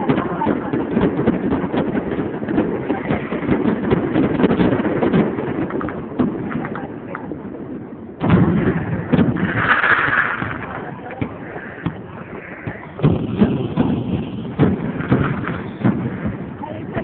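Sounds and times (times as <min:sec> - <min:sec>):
loud firework bang: 0:00.0 - 0:07.2, 0:08.2 - 0:17.0
fireworks popping and crackling: 0:00.0 - 0:17.0.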